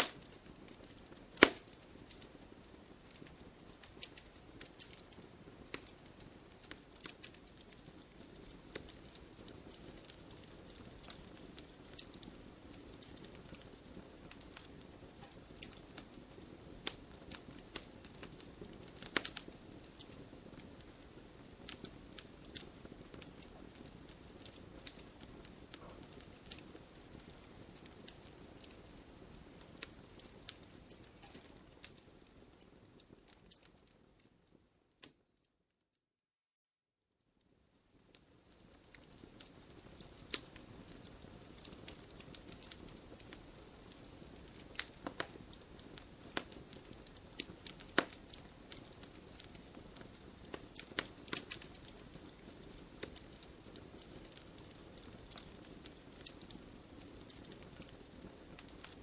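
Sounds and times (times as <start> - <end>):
rush of burning wood: 0.0 - 34.0, 37.9 - 59.0
campfire crackling and popping: 0.0 - 35.2, 37.9 - 59.0.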